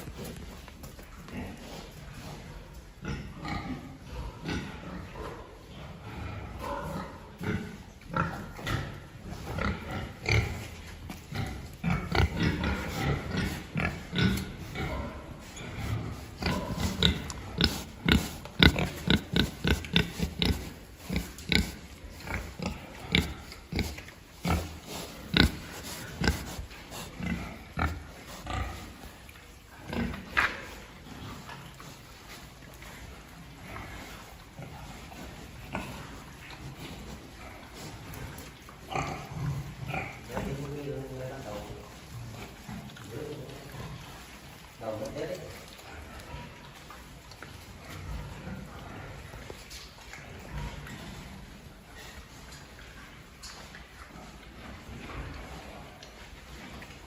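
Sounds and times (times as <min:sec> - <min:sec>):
pigs grunting: 0:01.3 - 0:32.2, 0:33.0 - 0:49.5, 0:54.0 - 0:56.8.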